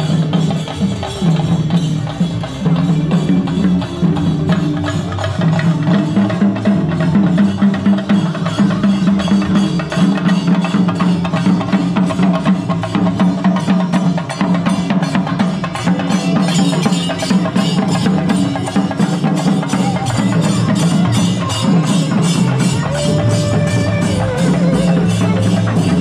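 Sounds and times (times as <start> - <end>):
drums beaten fast with sticks: 0.0 - 26.0.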